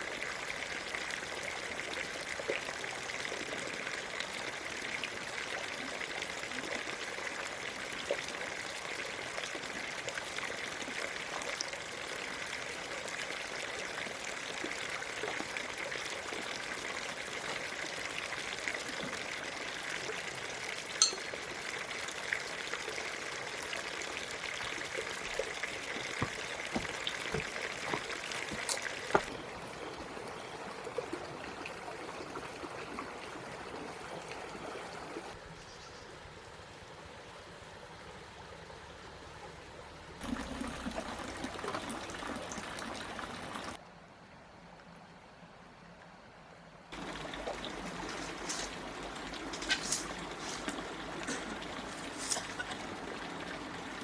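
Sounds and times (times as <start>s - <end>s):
water running and trickling: 0.0s - 35.4s, 40.2s - 43.8s, 47.0s - 54.0s.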